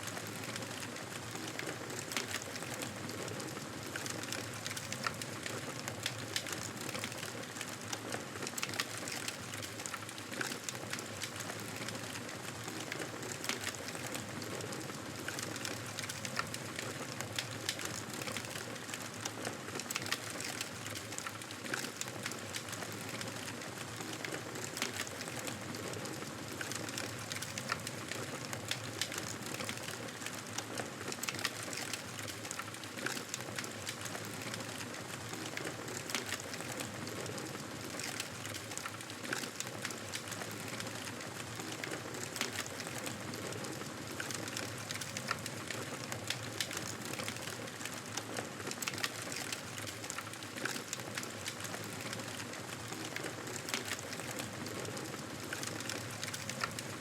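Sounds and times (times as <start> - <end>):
fire crackles and pops: 0.0 - 57.0.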